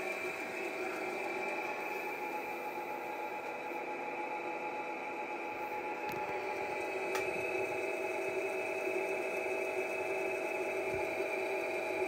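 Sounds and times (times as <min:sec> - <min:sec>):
drill press motor whirring: 0:00.0 - 0:12.0.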